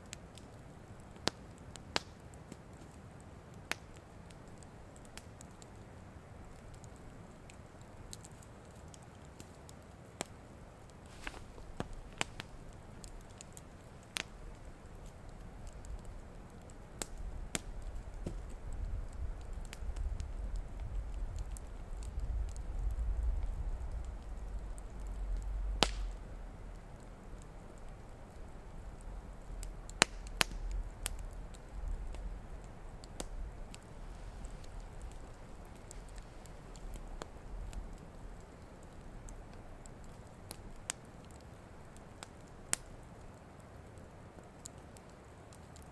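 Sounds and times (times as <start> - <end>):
campfire crackling and popping: 0.0 - 45.9
soft hiss: 0.0 - 45.9.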